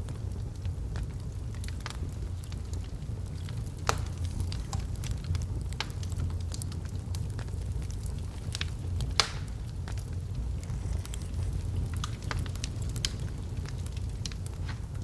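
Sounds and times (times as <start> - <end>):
fire rumbling: 0.0 - 15.0
logs crackling and popping: 0.0 - 15.0.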